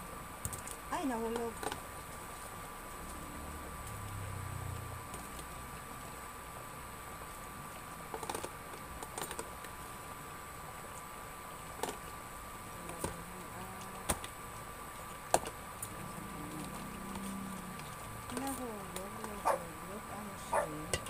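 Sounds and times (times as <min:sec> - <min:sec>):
broth simmering: 0:00.0 - 0:21.0
induction cooker whine: 0:00.0 - 0:21.0.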